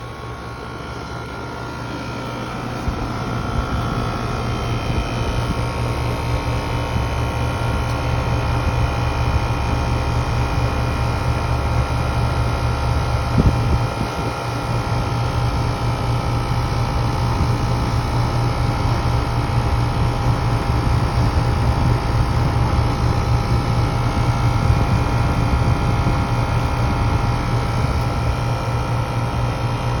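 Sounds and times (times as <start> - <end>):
air conditioner unit humming: 0.0 - 30.0.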